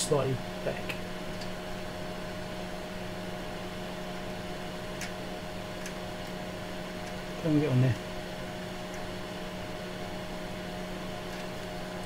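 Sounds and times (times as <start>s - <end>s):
equipment hum and fan whir: 0.0s - 12.0s.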